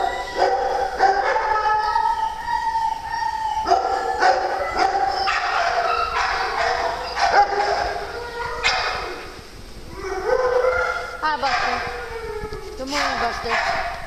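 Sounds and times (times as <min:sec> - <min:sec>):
dogs barking and yipping: 0:00.0 - 0:14.0.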